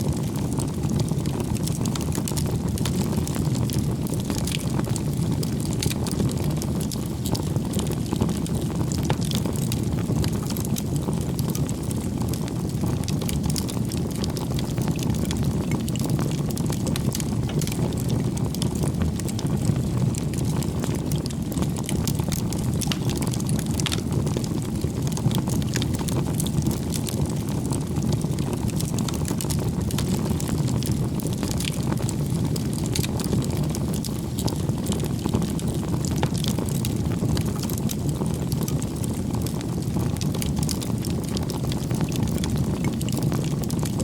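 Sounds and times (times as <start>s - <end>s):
fire crackles and pops: 0.0s - 44.0s
low rumble of flames: 0.0s - 44.0s.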